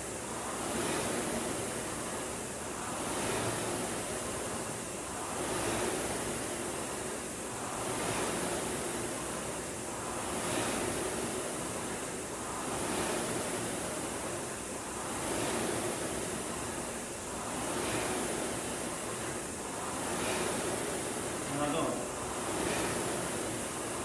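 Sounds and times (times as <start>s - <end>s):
rowing machine flywheel whooshing: 0.0s - 24.0s.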